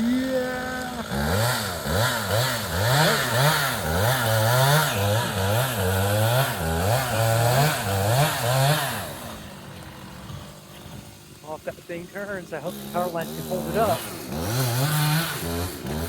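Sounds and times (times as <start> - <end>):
chainsaw cutting tree trunk: 0.0 - 16.0.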